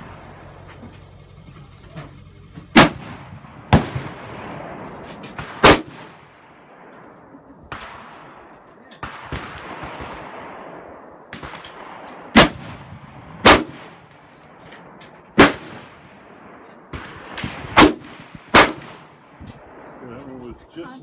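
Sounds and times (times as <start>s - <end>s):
rifle shots: 2.7s - 20.6s
fainter distant shots: 2.7s - 21.0s.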